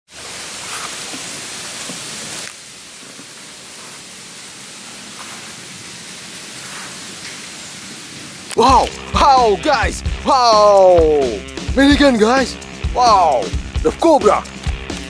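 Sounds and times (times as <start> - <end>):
steady outdoor hiss: 0.1 - 15.0.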